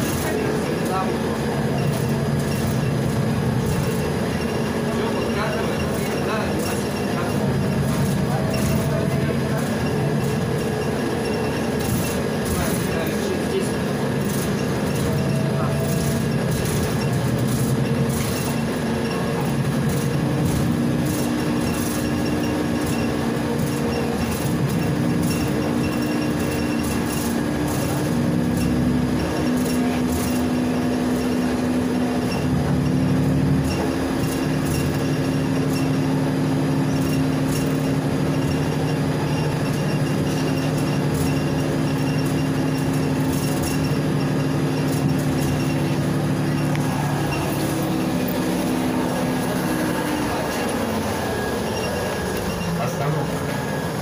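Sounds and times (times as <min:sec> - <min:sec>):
bus engine drone: 0:00.0 - 0:54.0
road and rattle noise: 0:00.0 - 0:54.0.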